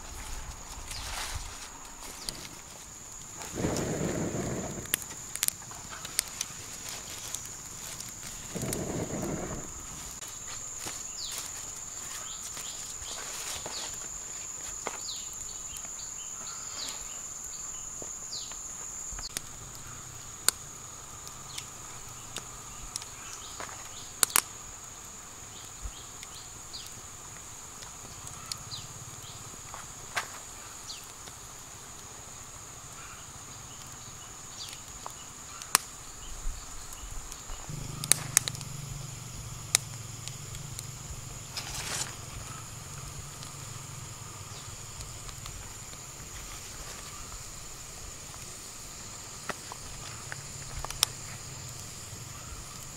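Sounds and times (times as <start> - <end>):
campfire crackling: 0.0 - 52.9
insect drone: 0.0 - 52.9.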